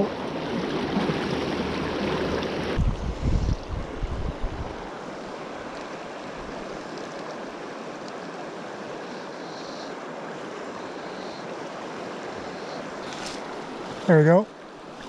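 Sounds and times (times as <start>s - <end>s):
river rushing over riffles: 0.0s - 15.0s.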